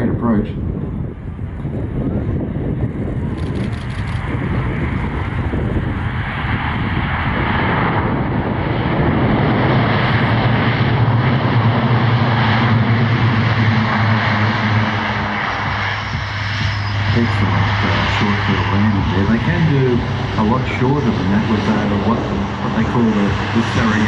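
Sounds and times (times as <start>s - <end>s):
propeller aircraft drone: 0.0s - 24.0s.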